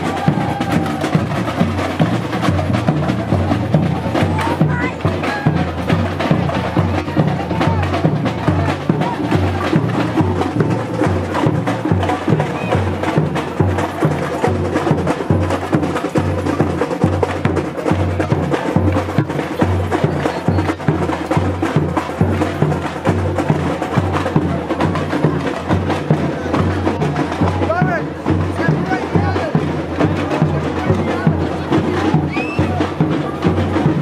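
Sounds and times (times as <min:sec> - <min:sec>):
bass drums beating: 0:00.0 - 0:34.0.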